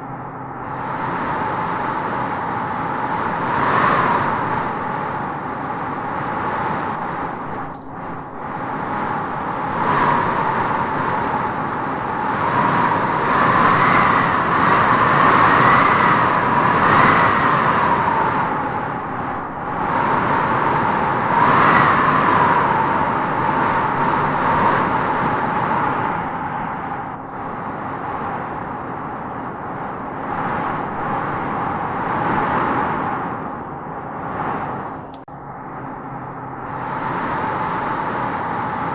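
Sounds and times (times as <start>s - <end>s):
wind howling in gusts: 0.0s - 38.9s.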